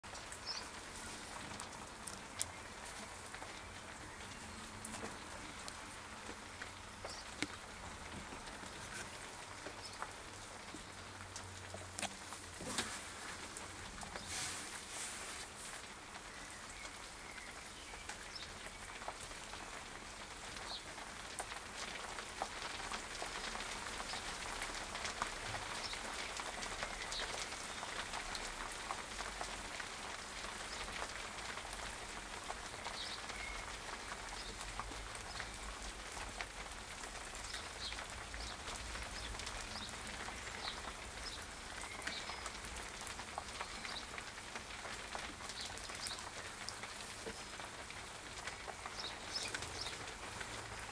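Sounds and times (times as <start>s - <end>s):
rain pattering on pond: 0.0s - 50.9s.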